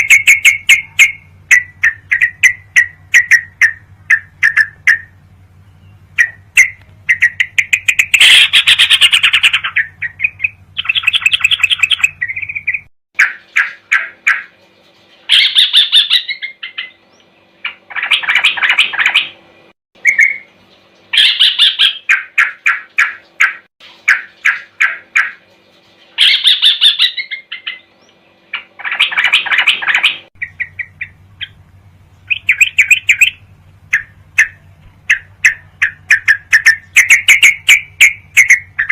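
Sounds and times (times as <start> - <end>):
bird chirping song: 0.0 - 38.9
steady low hum: 0.0 - 38.9.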